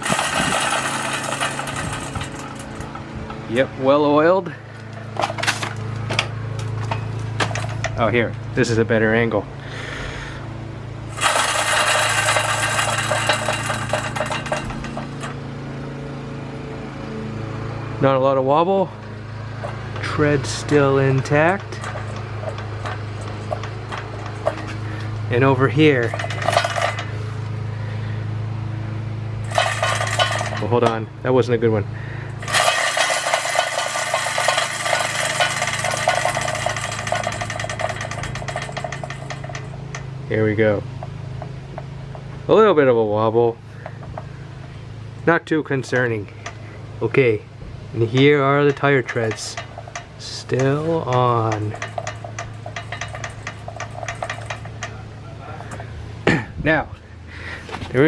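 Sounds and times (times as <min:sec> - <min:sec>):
mower wheel whirring and clicking: 0:00.0 - 0:09.4, 0:10.2 - 0:17.6, 0:19.0 - 0:31.6, 0:32.2 - 0:42.5, 0:43.3 - 0:56.2, 0:57.0 - 0:58.0.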